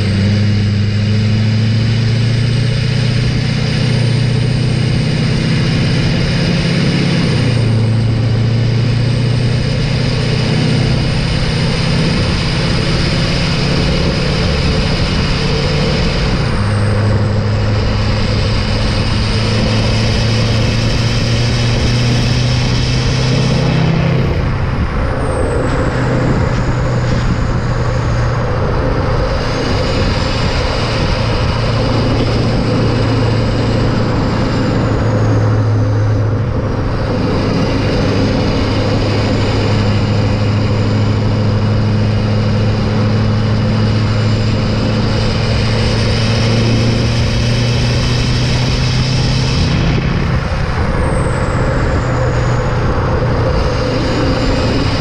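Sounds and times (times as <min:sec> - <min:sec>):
diesel engine exhaust: 0:00.0 - 0:55.0
road and wind rush: 0:00.0 - 0:55.0.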